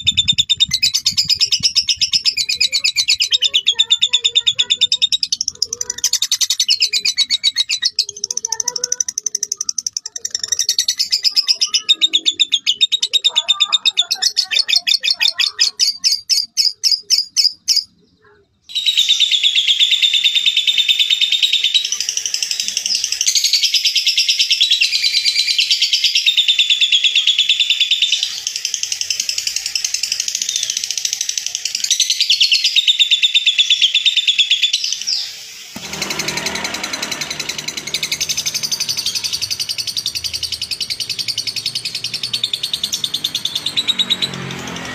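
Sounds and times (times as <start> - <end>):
lovebirds chattering trills: 0.0 - 44.8.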